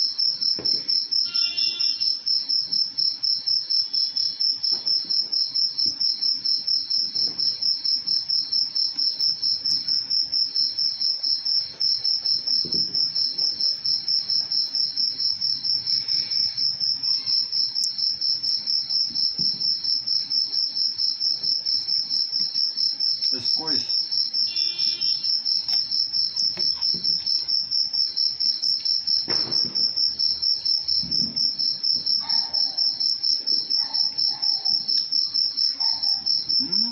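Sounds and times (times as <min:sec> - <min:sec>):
cricket chirping: 0:00.0 - 0:36.9.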